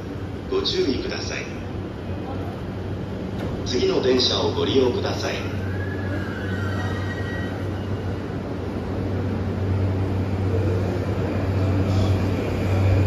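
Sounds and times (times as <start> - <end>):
electric train motors humming: 0.0 - 13.0.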